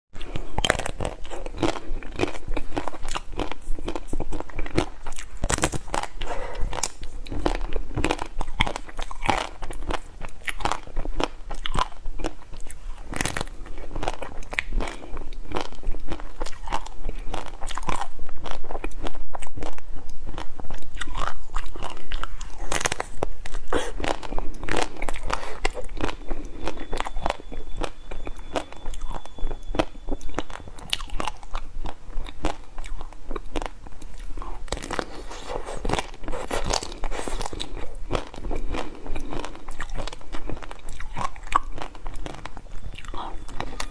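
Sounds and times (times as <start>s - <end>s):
chewing: 0.2s - 43.9s.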